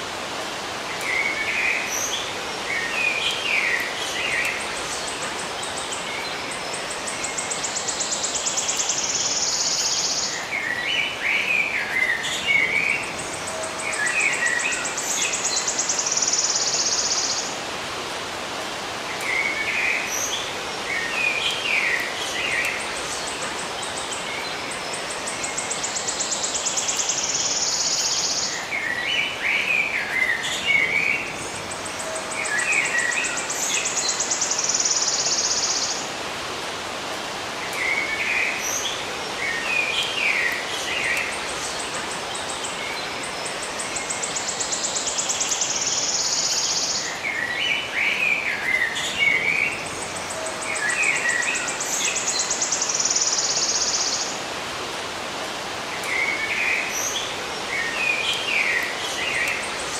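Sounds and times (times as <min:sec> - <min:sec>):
birds chirping and twittering: 0:00.0 - 0:59.9
constant hiss: 0:00.0 - 0:59.9.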